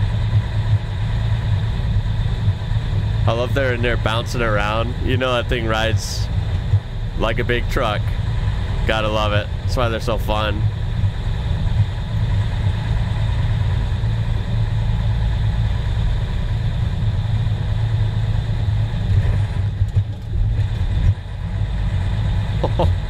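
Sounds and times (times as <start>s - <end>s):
diesel truck engine droning: 0.0s - 23.0s.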